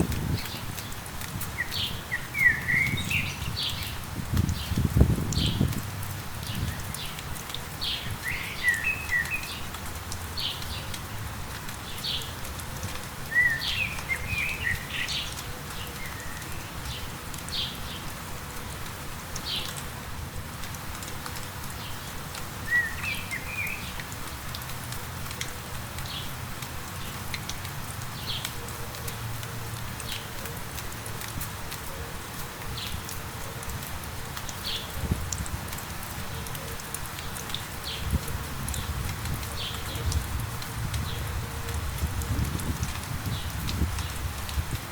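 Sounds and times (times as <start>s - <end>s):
light rain: 0.0s - 44.9s
songbirds calling: 0.3s - 11.0s, 11.8s - 18.8s, 21.7s - 24.6s, 25.4s - 44.9s.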